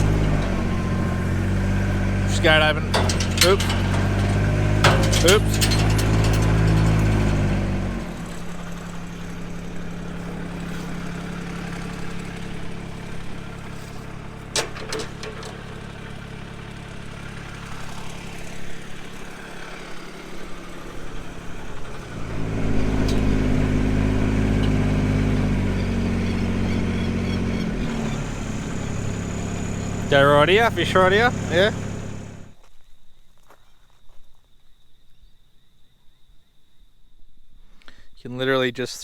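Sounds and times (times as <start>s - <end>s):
vehicle engine running: 0.0s - 32.6s.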